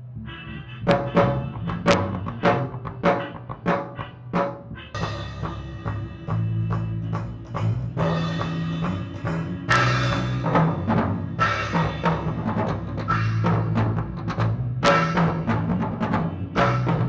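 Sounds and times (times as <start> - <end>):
bass line: 0.0 - 17.0
drum kit with cymbals: 0.9 - 17.0.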